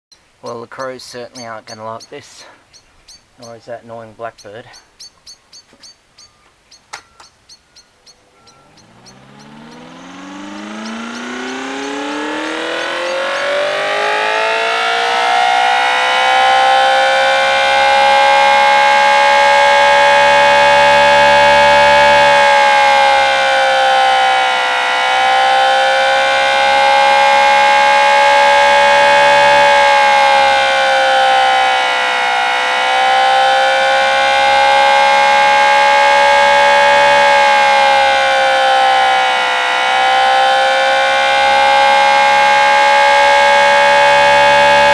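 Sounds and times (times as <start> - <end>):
mechanical siren two-tone wail: 7.0 - 44.9.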